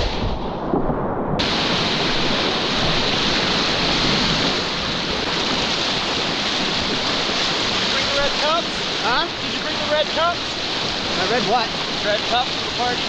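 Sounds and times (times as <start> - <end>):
river rapids rushing: 1.4 - 13.0.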